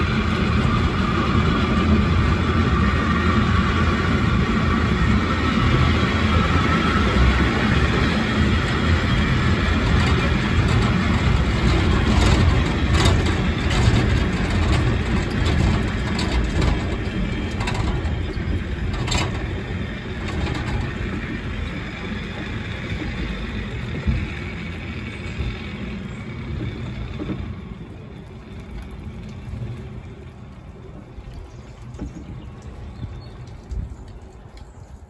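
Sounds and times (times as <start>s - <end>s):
railway car rumbling on rails: 0.0s - 35.0s.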